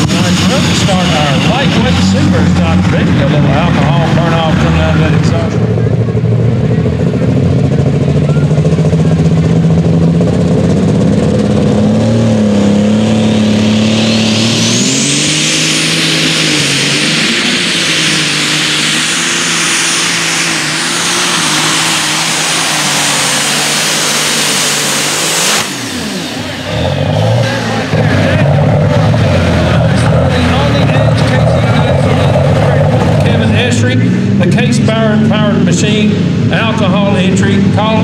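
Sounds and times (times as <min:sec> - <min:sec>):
tractor engine running hard: 0:00.0 - 0:38.0
turbocharger whine: 0:00.0 - 0:38.0.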